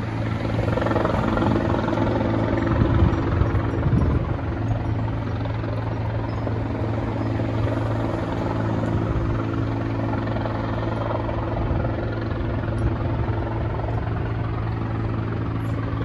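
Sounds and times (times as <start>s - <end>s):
helicopter rotor drone: 0.0s - 16.0s.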